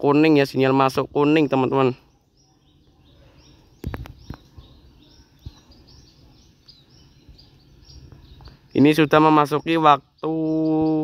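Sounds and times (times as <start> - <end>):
faint background noise: 0.0 - 11.0
small birds chirping: 0.0 - 11.0.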